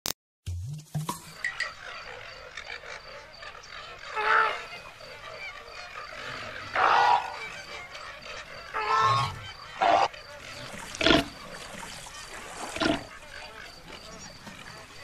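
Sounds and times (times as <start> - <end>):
wild outdoor ambience: 0.5 - 15.0
loud animal calls: 1.6 - 14.8.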